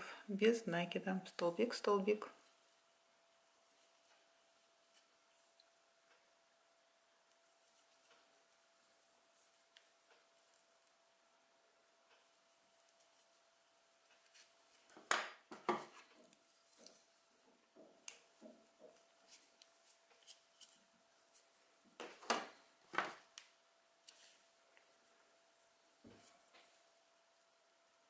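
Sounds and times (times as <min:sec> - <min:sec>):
soft yarn rustles and clicks: 0:00.0 - 0:27.5.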